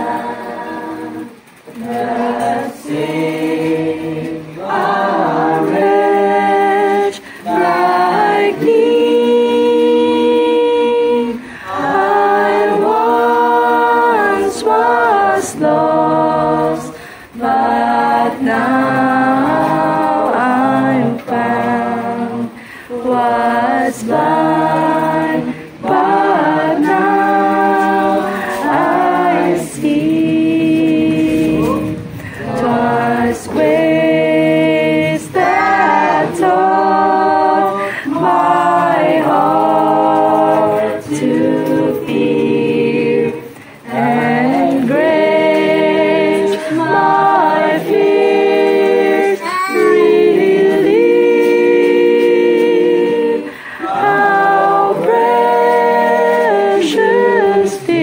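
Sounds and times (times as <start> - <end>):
group singing without instruments: 0.0 - 58.0.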